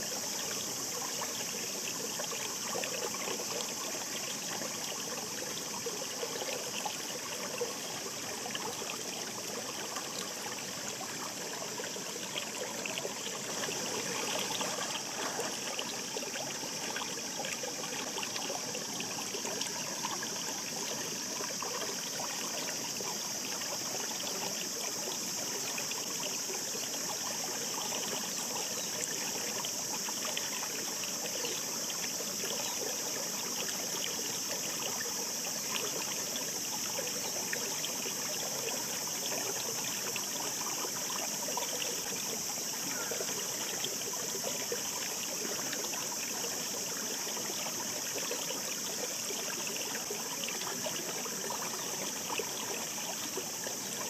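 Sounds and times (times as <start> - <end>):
stream babbling over stones: 0.0 - 54.0.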